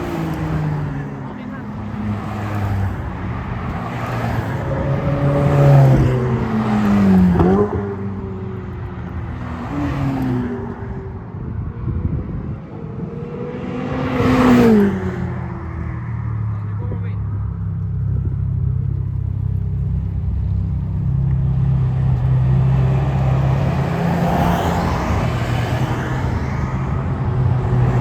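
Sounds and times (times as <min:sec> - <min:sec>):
sports cars driving past: 0:00.0 - 0:28.0.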